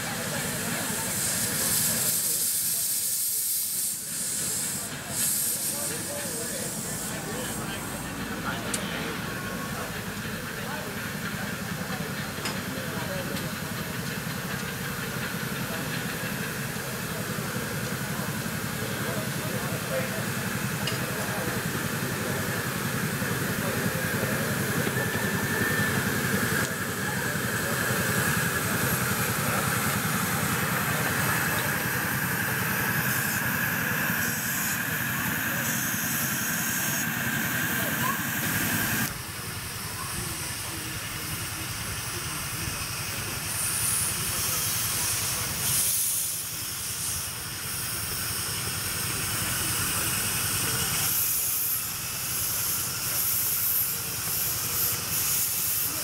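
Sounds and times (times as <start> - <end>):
steam locomotive hissing: 0.0 - 56.0.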